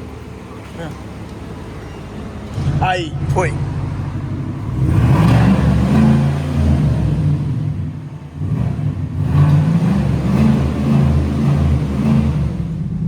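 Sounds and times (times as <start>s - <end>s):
engine accelerating: 0.0s - 13.0s.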